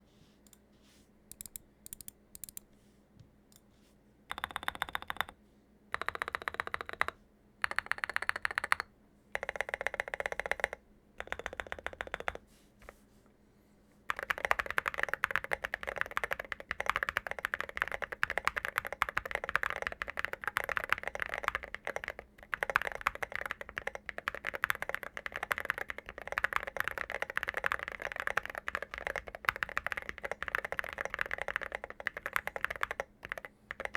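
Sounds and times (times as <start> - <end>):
mechanical keyboard typing: 1.3 - 2.6, 4.3 - 5.3, 6.0 - 12.4, 14.1 - 33.9.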